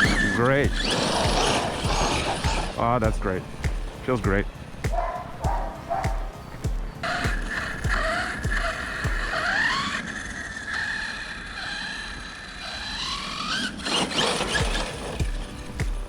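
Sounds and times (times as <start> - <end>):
electric motor whining: 0.0 - 4.0, 7.0 - 16.0
tyres on gravel: 0.0 - 16.0.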